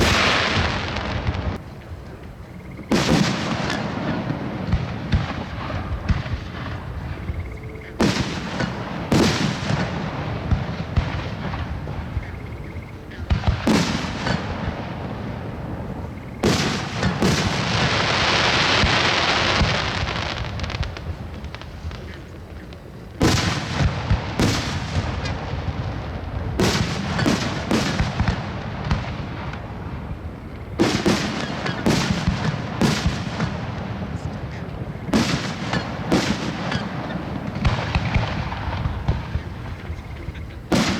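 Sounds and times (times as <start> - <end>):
fireworks bangs and booms: 0.0 - 40.9
fireworks hiss: 0.0 - 40.9.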